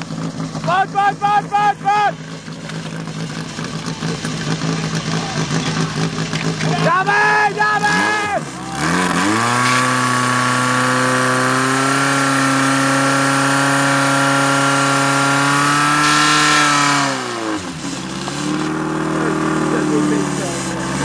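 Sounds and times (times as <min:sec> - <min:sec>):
pump engine revving: 0:00.0 - 0:21.0.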